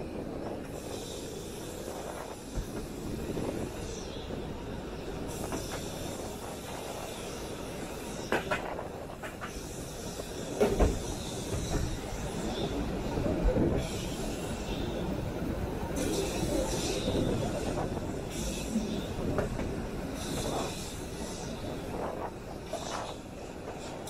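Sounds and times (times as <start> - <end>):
tram wheels rumbling on rail: 0.0 - 24.0.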